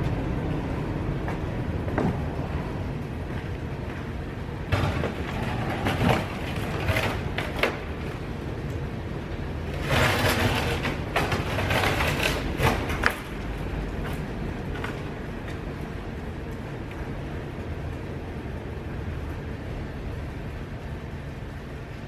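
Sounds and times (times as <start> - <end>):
steady low rumble: 0.0 - 9.9, 12.8 - 22.0.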